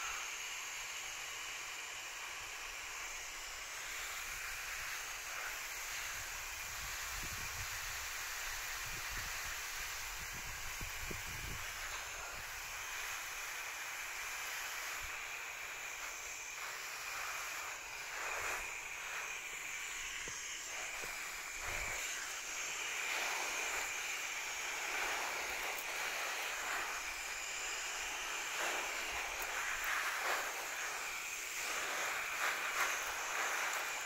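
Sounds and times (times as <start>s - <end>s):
hose spray hissing: 0.0s - 34.0s.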